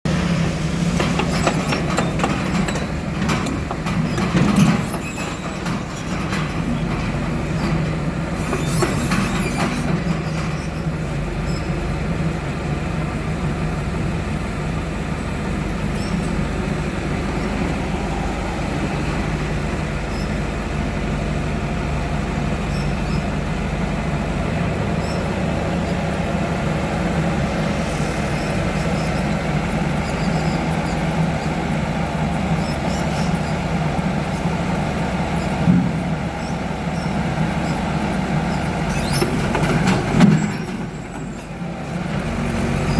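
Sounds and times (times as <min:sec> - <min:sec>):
diesel engine droning: 0:00.1 - 0:42.9.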